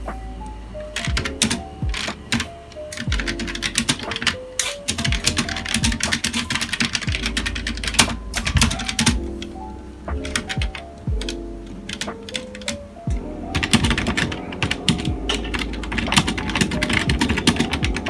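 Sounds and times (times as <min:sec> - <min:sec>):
instrumental background music: 0:00.0 - 0:18.0
computer keyboard typing: 0:01.0 - 0:09.3, 0:10.1 - 0:12.8, 0:13.5 - 0:18.0.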